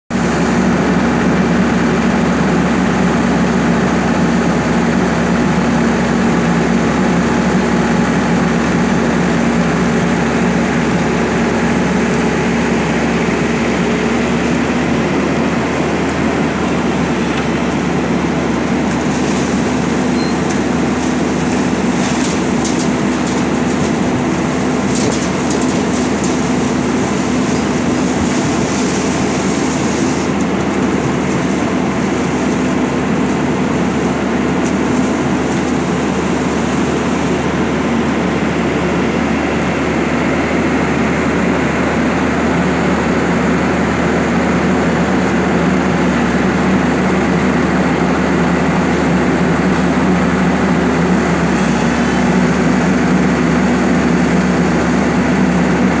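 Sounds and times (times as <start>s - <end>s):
crane engine and winch droning: 0.1s - 56.0s
mud and water pouring: 0.2s - 56.0s.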